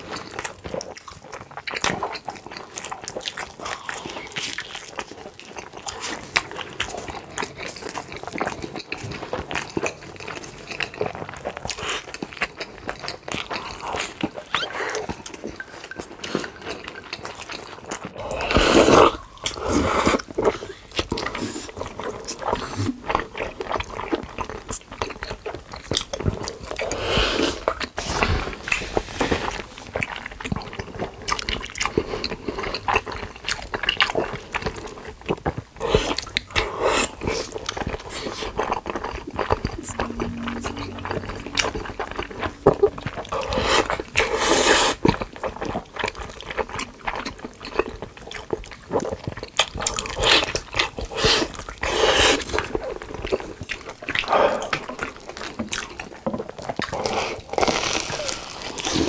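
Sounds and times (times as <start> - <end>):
chewing food: 0.0 - 59.0.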